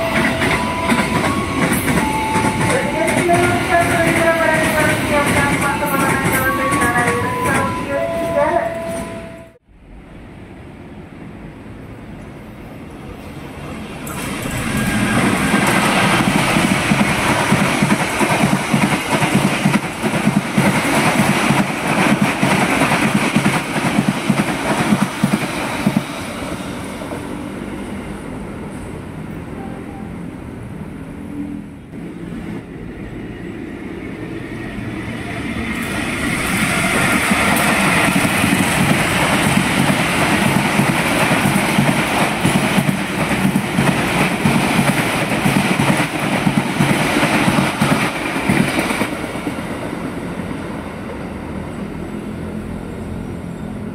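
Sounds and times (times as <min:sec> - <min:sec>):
train coaches rumbling: 0:00.0 - 0:53.9.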